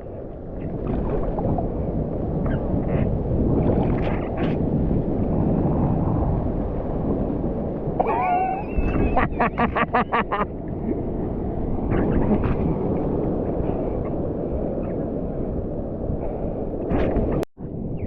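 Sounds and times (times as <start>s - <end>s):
surf: 0.0s - 18.0s
wind rushing on microphone: 0.0s - 18.0s.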